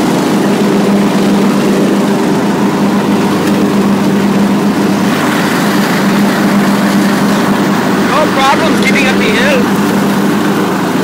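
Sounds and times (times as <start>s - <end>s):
lawn tractor engine running: 0.0s - 11.0s.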